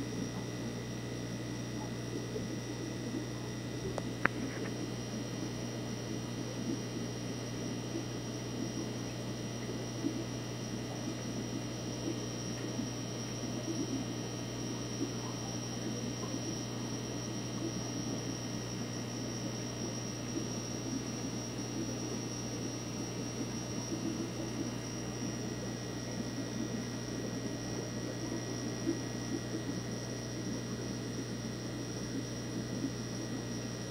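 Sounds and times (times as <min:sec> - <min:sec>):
aquarium equipment hum: 0:00.0 - 0:33.9.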